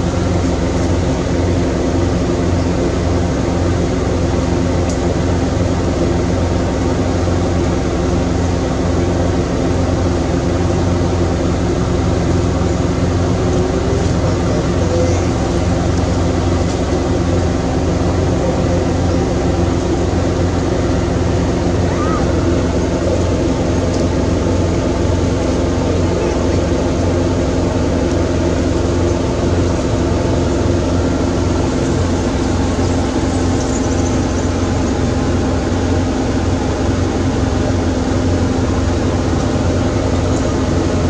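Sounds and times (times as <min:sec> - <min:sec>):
loud mechanical drone: 0:00.0 - 0:41.0.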